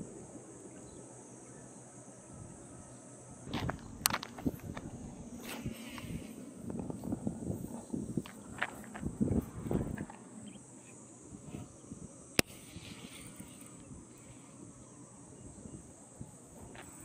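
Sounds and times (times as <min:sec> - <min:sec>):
high insect chorus: 0:00.0 - 0:17.0.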